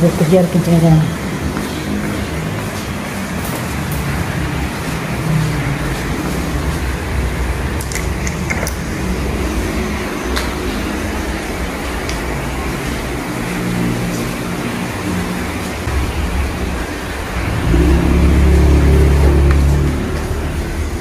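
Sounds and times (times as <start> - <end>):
heavy rain heard from indoors: 0.0 - 21.0.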